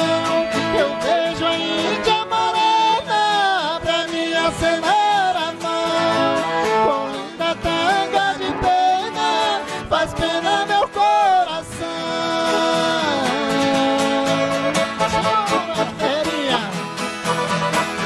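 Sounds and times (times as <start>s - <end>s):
two men singing: 0.0s - 16.9s
strummed acoustic guitars: 0.0s - 18.0s.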